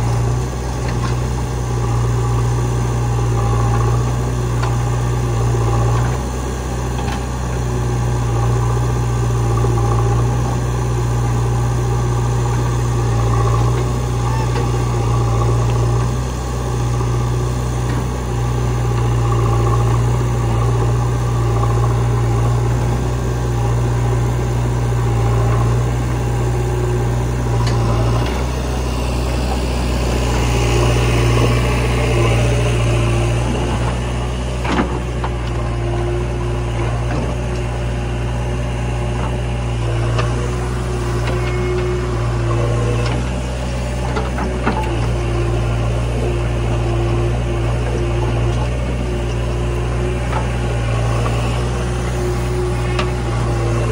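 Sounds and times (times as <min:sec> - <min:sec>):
backhoe digging soil: 0:00.0 - 0:53.9
diesel engines running: 0:00.0 - 0:53.9.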